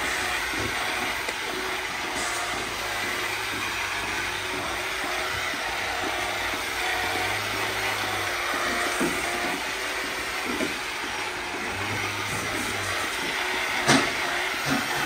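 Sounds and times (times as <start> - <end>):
milking machinery drone and hiss: 0.0 - 15.0.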